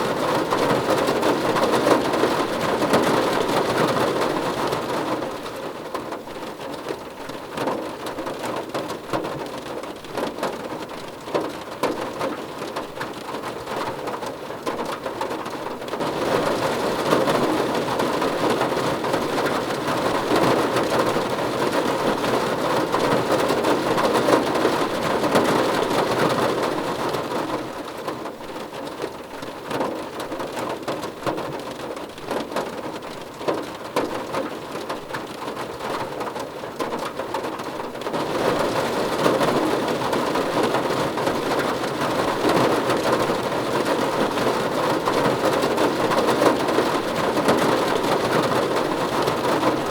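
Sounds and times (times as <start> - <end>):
rain on a car roof: 0.0 - 49.9.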